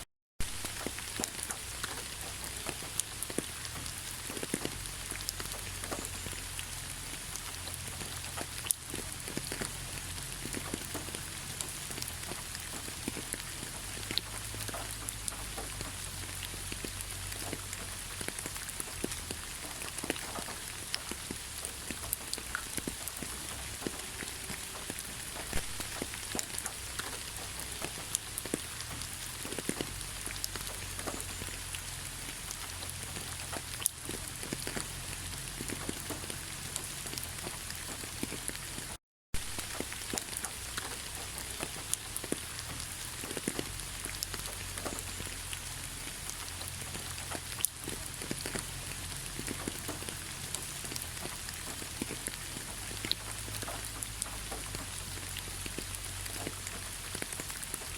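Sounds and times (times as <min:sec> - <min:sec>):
heavy rain falling: 0:00.4 - 0:57.9.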